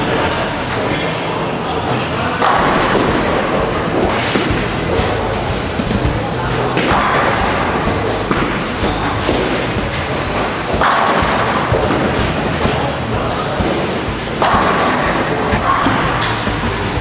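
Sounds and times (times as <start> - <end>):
bowling ball rolling: 0.0 - 17.0
pinsetter rattling and thudding: 2.3 - 17.0
crash of bowling pins: 2.4 - 17.0.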